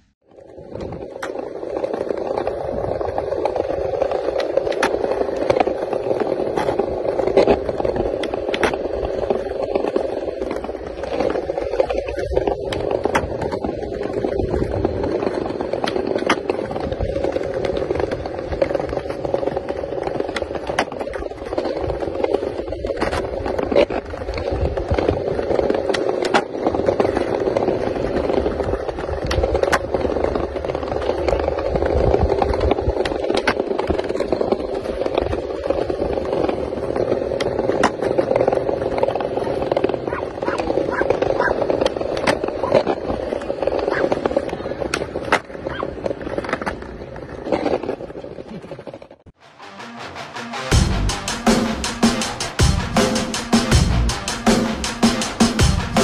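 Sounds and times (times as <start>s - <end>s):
skateboard clicks and knocks: 0.0s - 49.4s
skateboard wheels rolling on tiles: 0.0s - 49.4s, 51.1s - 56.0s.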